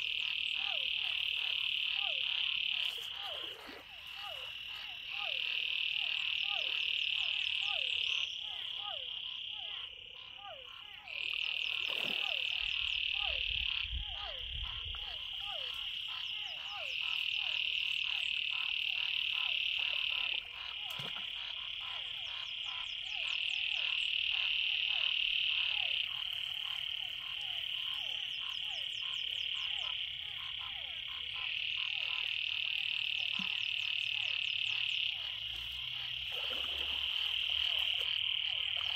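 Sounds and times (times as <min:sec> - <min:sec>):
frogs trilling: 0:00.0 - 0:38.9
short repeated frog calls: 0:00.0 - 0:38.9.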